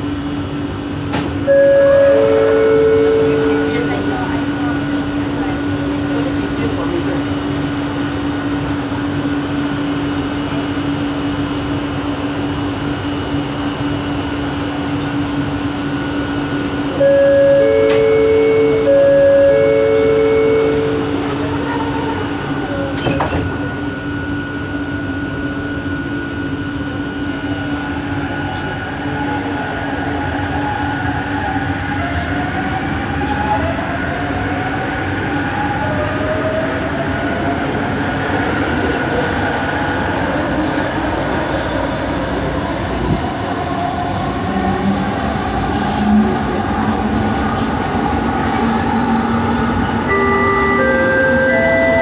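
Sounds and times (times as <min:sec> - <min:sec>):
metro motor hum: 0:00.0 - 0:52.0
rail and running noise: 0:00.0 - 0:52.0.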